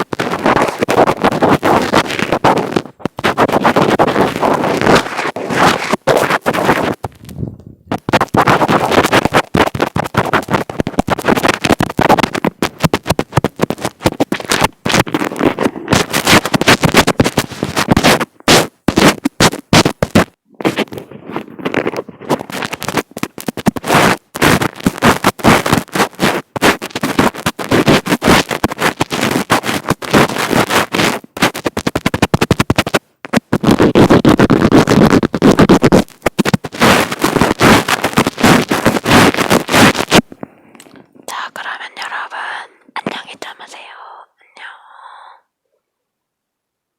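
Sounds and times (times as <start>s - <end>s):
fingers scratching on microphone: 0.0s - 45.4s.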